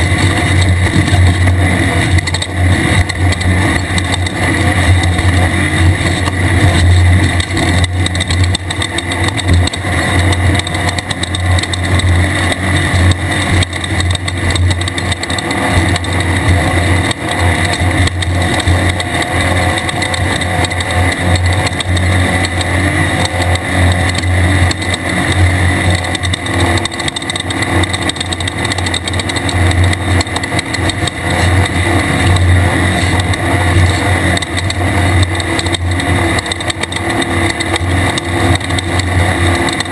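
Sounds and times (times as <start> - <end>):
engine knocking: 0.0 - 39.9
race car engine running hard: 0.0 - 39.9.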